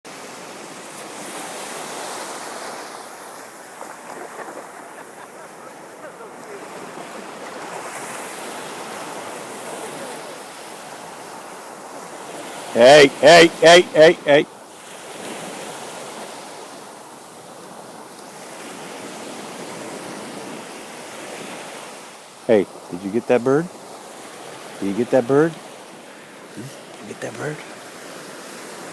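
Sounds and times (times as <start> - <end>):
ocean surf washing onto beach: 0.1 - 28.9.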